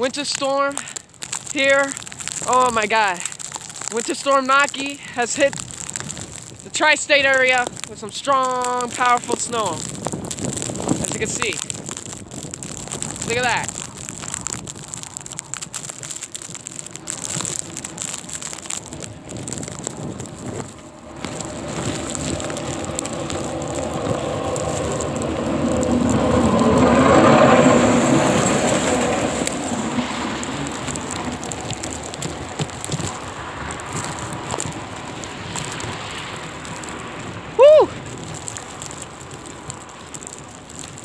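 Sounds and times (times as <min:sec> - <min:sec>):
blizzard wind: 0:00.0 - 0:41.0
snow hitting microphone: 0:00.0 - 0:41.0.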